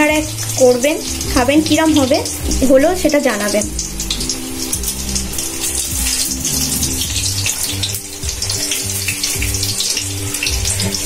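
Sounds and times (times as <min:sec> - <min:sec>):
background music: 0:00.0 - 0:11.0
pumpkin slices deep-frying in oil: 0:00.0 - 0:11.0.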